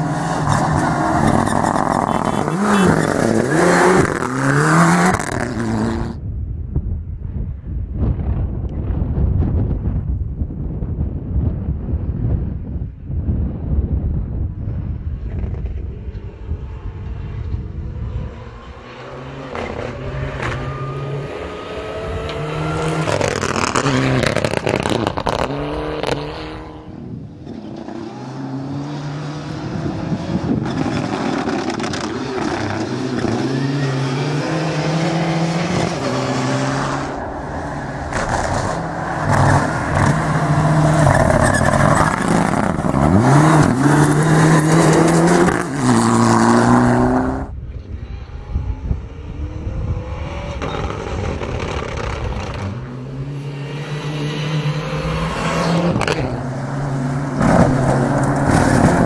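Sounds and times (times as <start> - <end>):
rally car engine revving: 0.0 - 6.2, 15.3 - 59.0.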